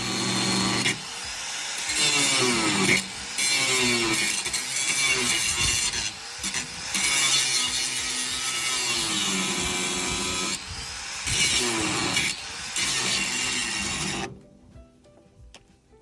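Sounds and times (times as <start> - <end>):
power tool cutting: 0.0 - 14.4.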